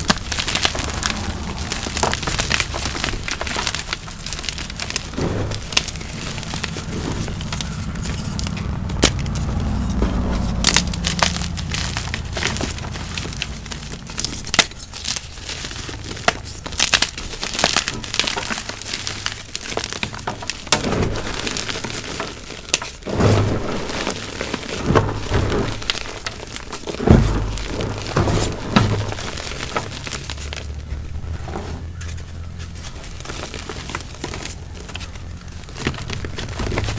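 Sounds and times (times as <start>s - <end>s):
chalk blocks crunching by hand: 0.0s - 36.9s.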